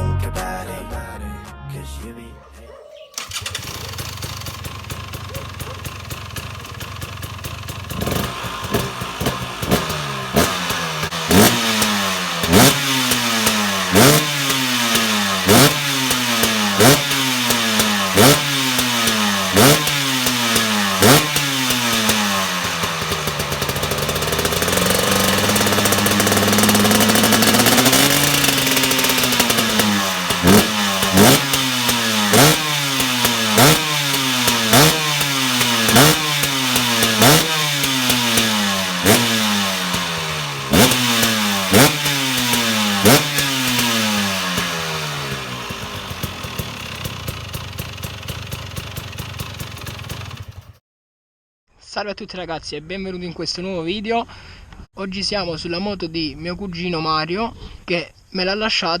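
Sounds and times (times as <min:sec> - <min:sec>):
two-stroke motorcycle engine revving: 0:03.2 - 0:50.8.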